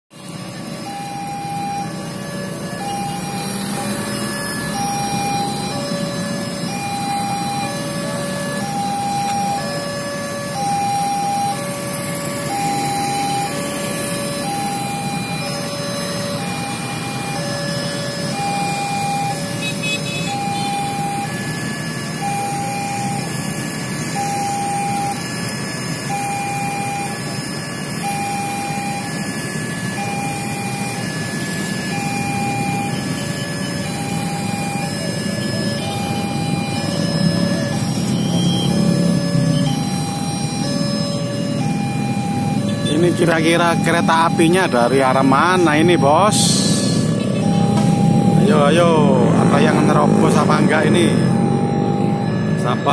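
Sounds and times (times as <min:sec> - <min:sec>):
road traffic noise: 0:00.1 - 0:52.9
two-tone crossing alarm: 0:00.1 - 0:52.9.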